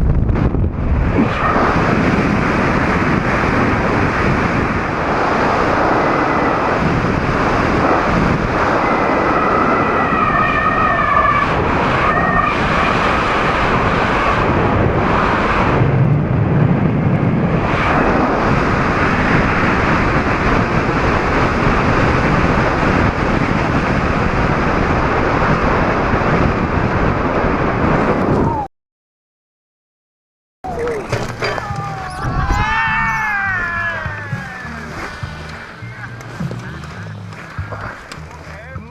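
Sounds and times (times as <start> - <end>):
wind rushing on microphone: 0.0 - 28.7, 30.7 - 38.9.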